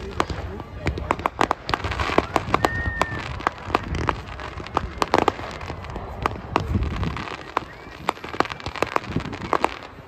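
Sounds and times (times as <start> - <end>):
fireworks bangs: 0.0 - 10.0
fireworks crackle: 0.0 - 10.0
firework whistle: 1.8 - 10.0.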